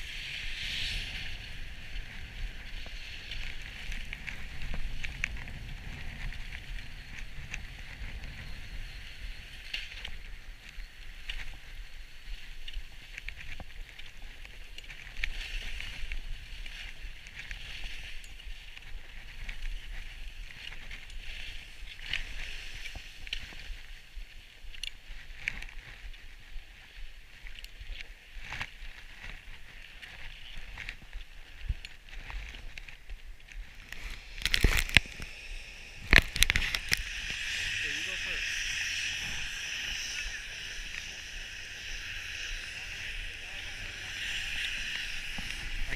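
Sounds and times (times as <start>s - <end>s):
skis scraping over snow: 0.0s - 45.9s.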